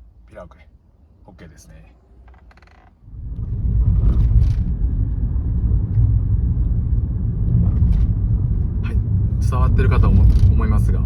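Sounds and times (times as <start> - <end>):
car low rumble: 0.0 - 11.0.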